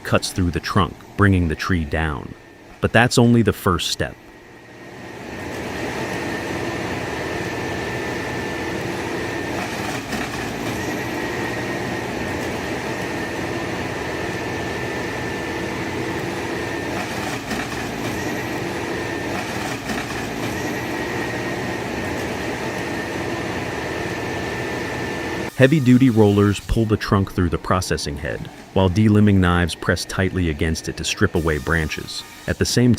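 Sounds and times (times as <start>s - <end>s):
diesel engine drone: 0.0s - 32.9s
high hydraulic whine: 0.0s - 32.9s.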